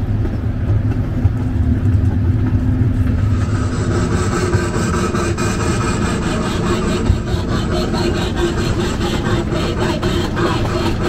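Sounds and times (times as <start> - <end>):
ride train rumbling on track: 0.0 - 11.0.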